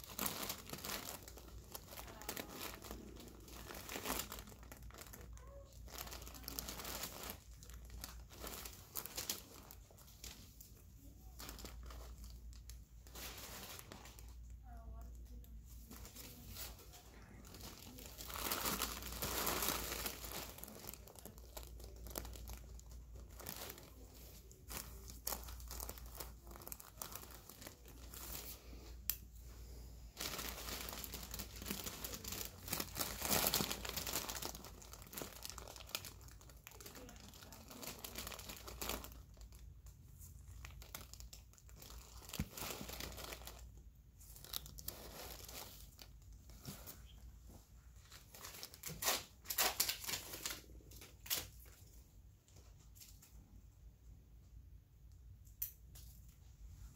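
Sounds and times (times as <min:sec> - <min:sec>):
gloves and paper crinkling: 0:00.0 - 0:53.4.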